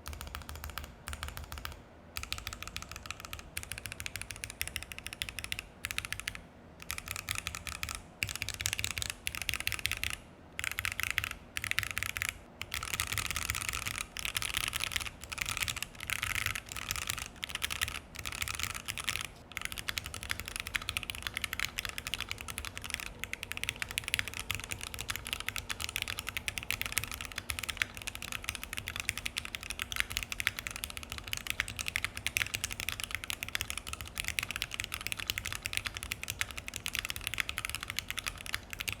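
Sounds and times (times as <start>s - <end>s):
mechanical keyboard typing: 0.0s - 39.0s.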